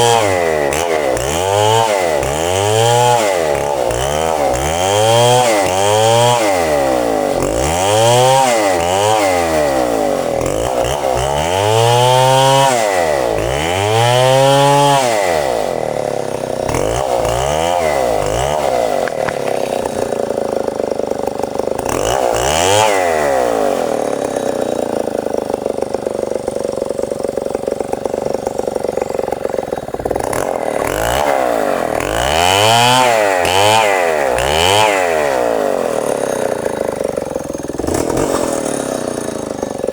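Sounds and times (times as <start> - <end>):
chainsaw sawing timber: 0.0 - 39.9.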